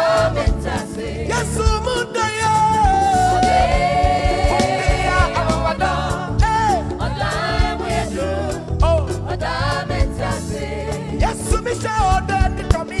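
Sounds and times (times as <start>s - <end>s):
bass: 0.0s - 13.0s
keyboard: 0.0s - 13.0s
steady drum beat: 0.0s - 13.0s.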